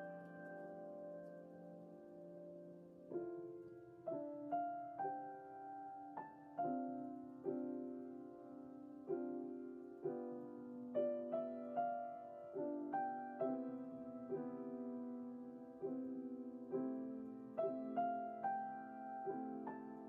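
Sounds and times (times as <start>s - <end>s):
slow gentle piano melody: 0.0s - 20.0s.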